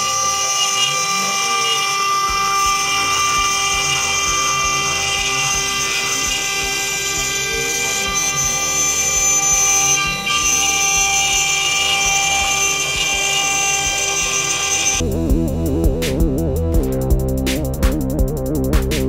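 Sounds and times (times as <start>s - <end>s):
router spindle whining: 0.0s - 15.3s
motor tones rising and falling: 0.0s - 17.0s.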